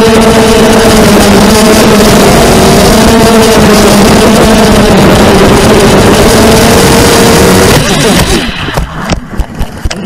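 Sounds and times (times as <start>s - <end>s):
drone crashing with sharp knocks: 0.0s - 10.0s
drone motors whining: 0.0s - 10.0s.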